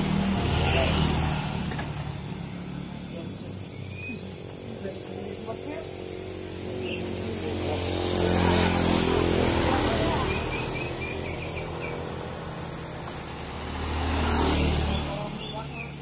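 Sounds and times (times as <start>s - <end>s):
low engine hum: 0.0s - 16.0s
vehicle passing by: 0.0s - 16.0s.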